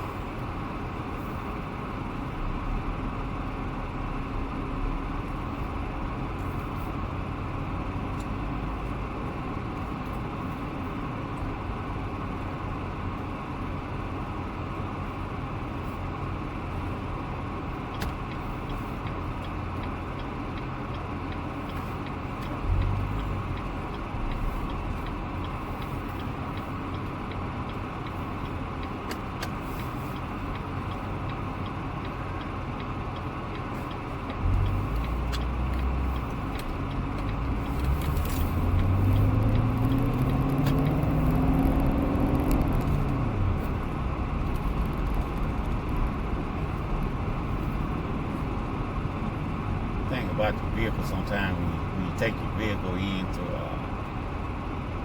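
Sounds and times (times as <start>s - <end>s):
road and engine noise: 0.0s - 55.0s.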